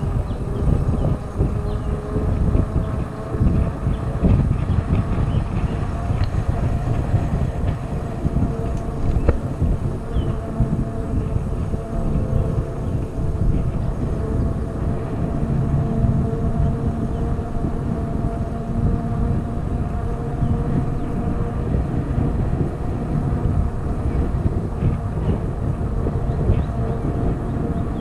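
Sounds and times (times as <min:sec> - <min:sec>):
faint steady hum: 0:00.0 - 0:28.0
wind buffeting microphone: 0:00.0 - 0:28.0.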